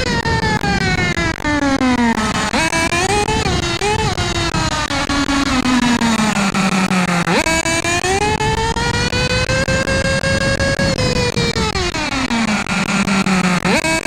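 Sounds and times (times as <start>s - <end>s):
model buggy nitro engine whining: 0.0s - 14.0s.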